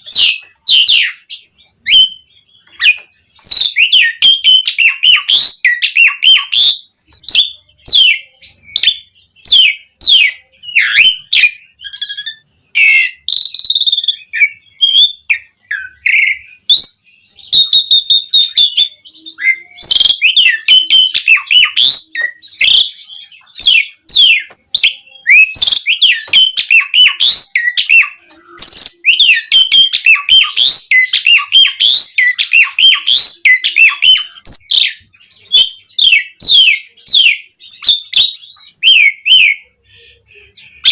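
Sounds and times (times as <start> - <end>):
starling whistles and chirps: 0.0 - 40.9.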